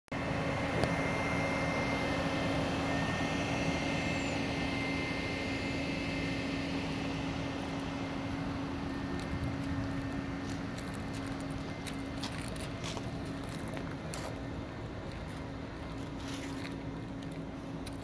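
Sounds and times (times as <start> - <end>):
heavy machinery droning: 0.1 - 18.0.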